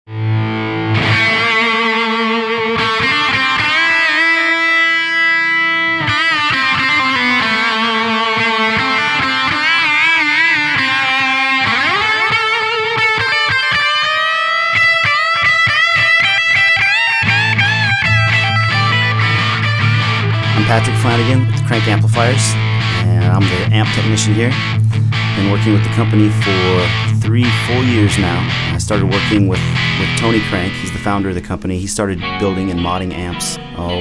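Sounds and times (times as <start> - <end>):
distorted electric guitar lead: 0.1 - 34.0.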